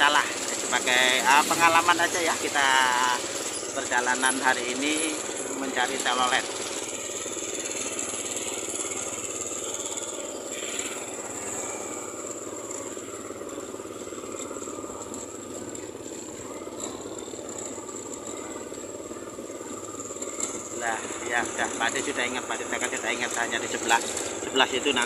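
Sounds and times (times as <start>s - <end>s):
motorcycle engines running: 0.0s - 25.0s
street traffic noise: 0.0s - 25.0s.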